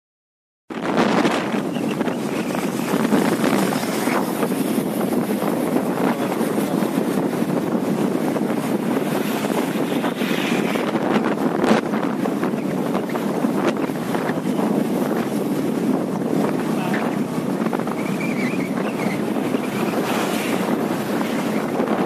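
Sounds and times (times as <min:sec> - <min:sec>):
road noise: 0:00.7 - 0:22.0
wind rushing over microphone: 0:00.7 - 0:22.0.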